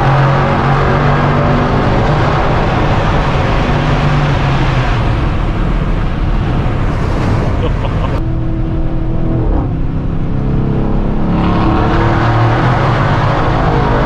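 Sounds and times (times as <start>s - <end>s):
car engine and exhaust driving: 0.0s - 14.0s.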